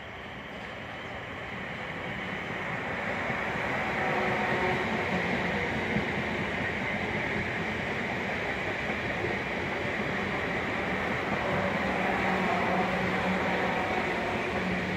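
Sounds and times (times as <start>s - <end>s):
train wheels rumbling on rail: 0.0s - 14.9s.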